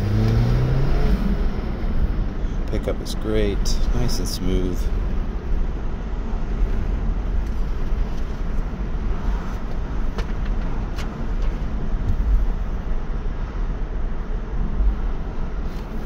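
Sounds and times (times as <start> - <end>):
road and wind noise in car: 0.0 - 16.0.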